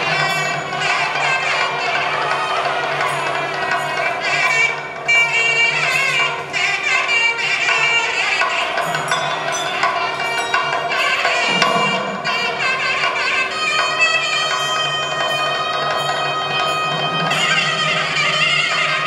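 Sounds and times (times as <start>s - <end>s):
percussion: 0.0s - 19.0s
reedy wind instrument melody: 0.0s - 19.0s.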